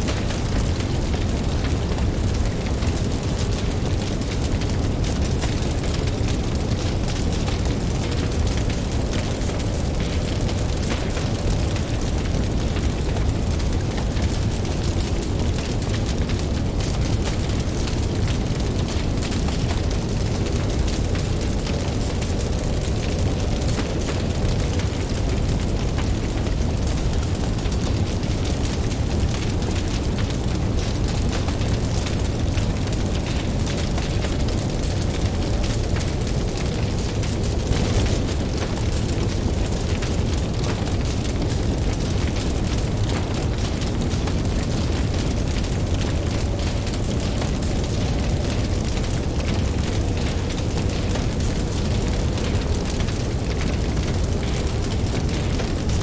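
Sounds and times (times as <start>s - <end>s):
campfire crackling and popping: 0.0s - 56.0s
steady low rumble: 0.0s - 56.0s.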